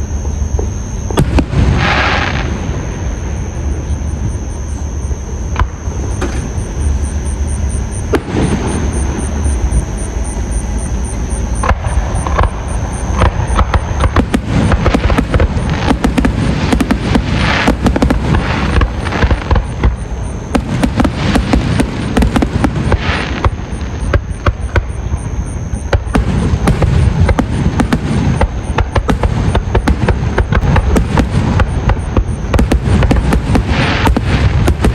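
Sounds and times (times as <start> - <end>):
fireworks booming bangs: 0.0 - 34.9
steady low rumble: 0.0 - 34.9.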